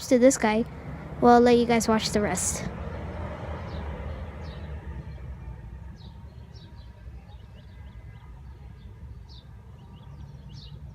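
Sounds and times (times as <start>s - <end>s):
steady low rumble: 0.0s - 10.9s
small birds chirping: 1.6s - 10.9s.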